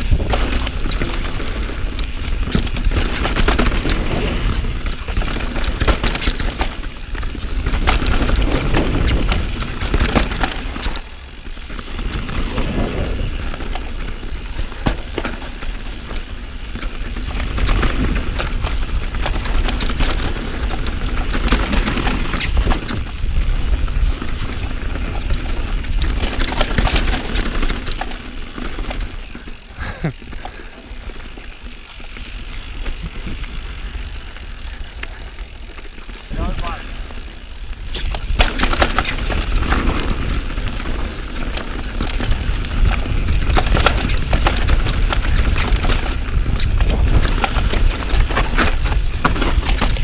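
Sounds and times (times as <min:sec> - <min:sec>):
bike clicking and rattling: 0:00.0 - 0:50.0.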